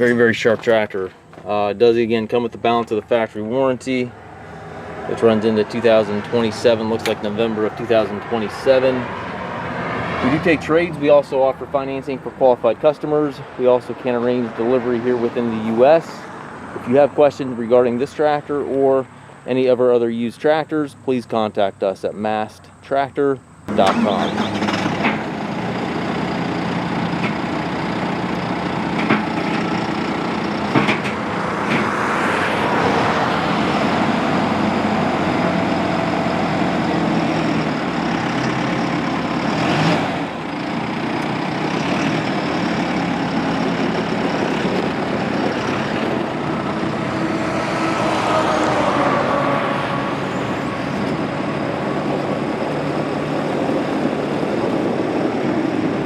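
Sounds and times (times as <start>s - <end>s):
tractor diesel engine running: 0.0s - 19.4s, 23.5s - 56.0s.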